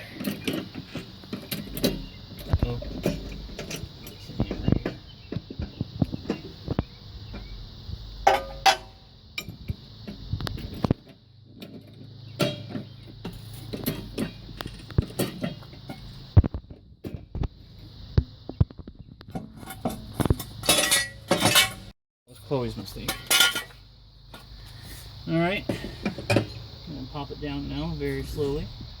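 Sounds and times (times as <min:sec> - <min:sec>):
steady high hiss: 0:00.0 - 0:29.0.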